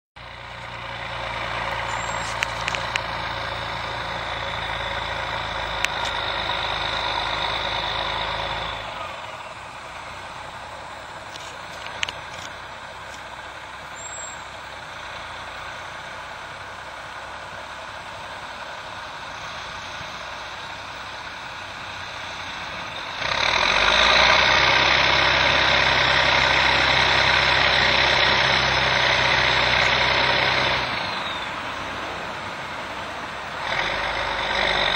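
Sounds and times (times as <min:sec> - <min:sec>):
heavy diesel engine running: 0:00.2 - 0:34.9.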